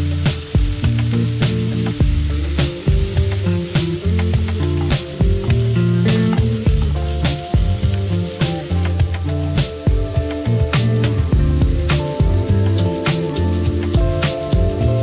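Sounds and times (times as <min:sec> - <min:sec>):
background music with steady beat: 0:00.0 - 0:15.0
chicken sizzling on a grill pan: 0:00.0 - 0:15.0.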